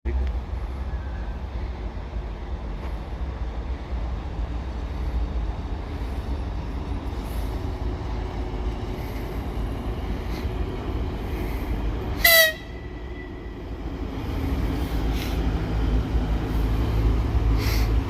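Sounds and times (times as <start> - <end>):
train rumbling: 0.1 - 18.0.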